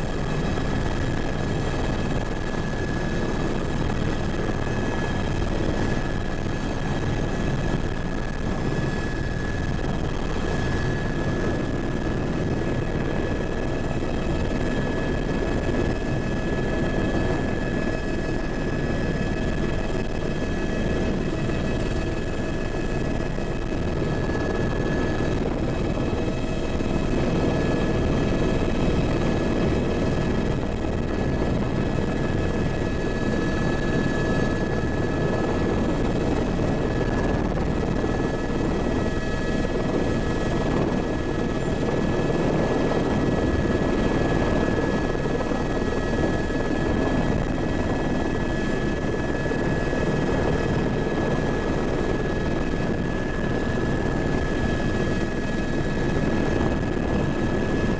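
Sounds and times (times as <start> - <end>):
helicopter rotor and engine rumble: 0.0 - 57.9.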